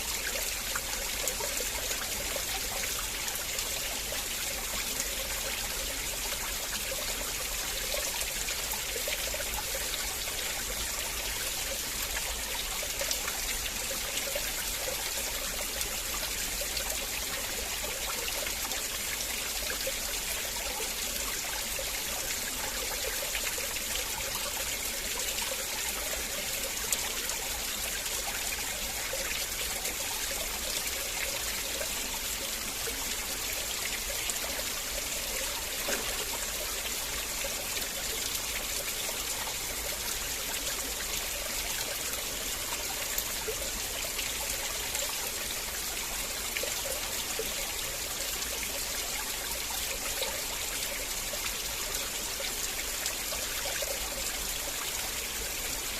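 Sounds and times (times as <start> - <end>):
river water flowing over rocks: 0.0 - 55.9.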